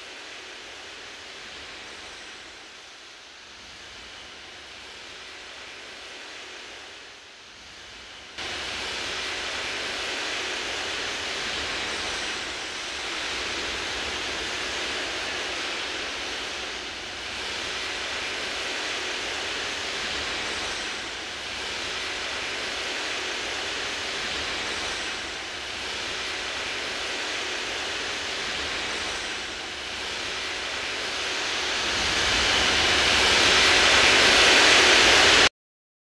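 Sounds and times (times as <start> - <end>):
steady rushing noise: 0.0 - 35.5.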